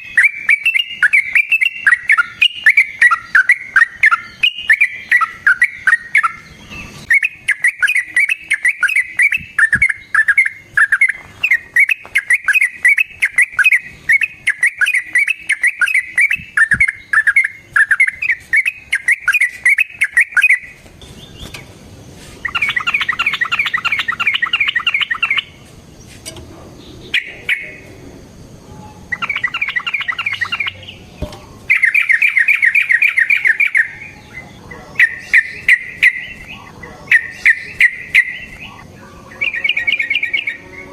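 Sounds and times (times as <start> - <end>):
bird fast trilling: 0.0 - 21.5, 22.4 - 25.6, 28.9 - 31.1, 31.7 - 40.9
bird chattering song: 0.0 - 26.2, 26.8 - 40.9.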